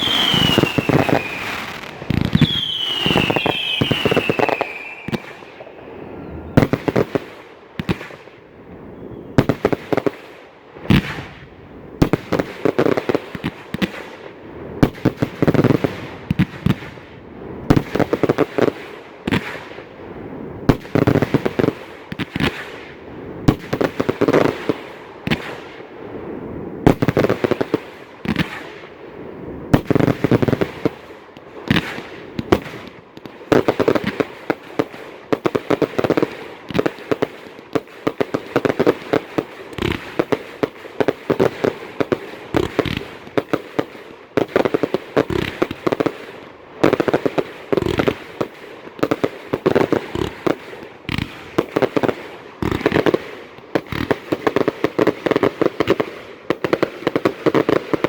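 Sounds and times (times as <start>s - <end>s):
fireworks bursting with sharp bangs: 0.0s - 58.0s.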